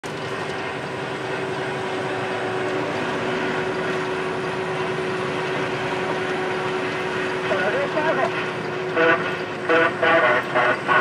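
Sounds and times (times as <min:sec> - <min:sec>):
truck road and engine noise: 0:00.0 - 0:11.0
steady hum: 0:00.1 - 0:11.0.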